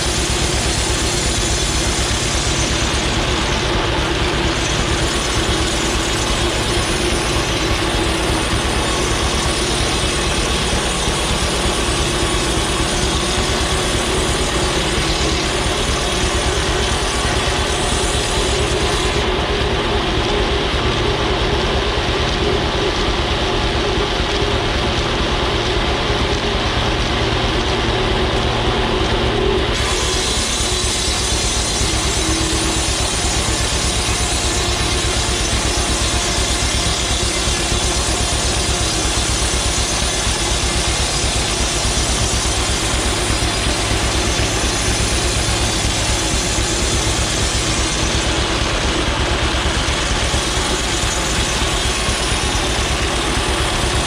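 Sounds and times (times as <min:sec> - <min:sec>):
circular saw cutting wood: 0:00.0 - 0:54.0.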